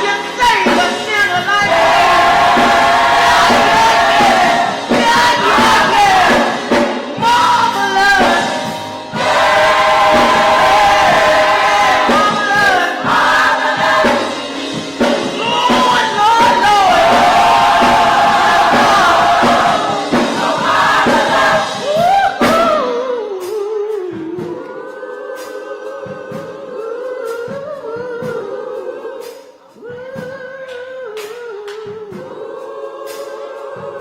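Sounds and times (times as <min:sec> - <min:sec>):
instrumental accompaniment: 0:00.0 - 0:29.7
choir and congregation singing: 0:00.0 - 0:34.0.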